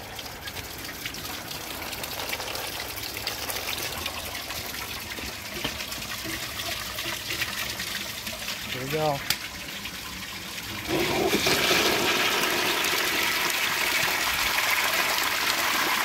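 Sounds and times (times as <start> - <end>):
toilet flushing: 0.0 - 16.0.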